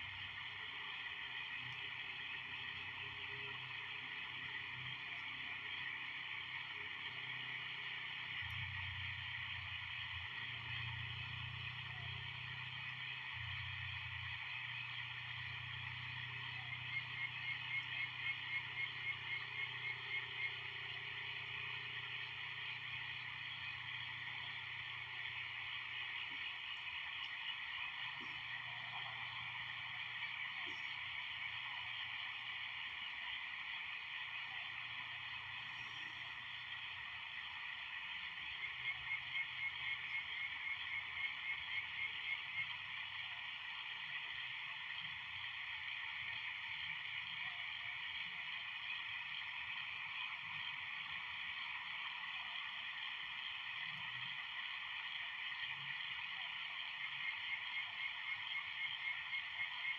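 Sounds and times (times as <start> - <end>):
night chorus of calling animals: 0.0 - 59.9.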